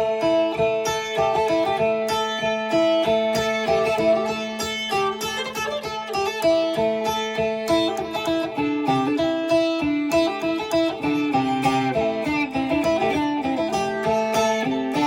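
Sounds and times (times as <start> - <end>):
plucked lute melody over drone: 0.0 - 15.0.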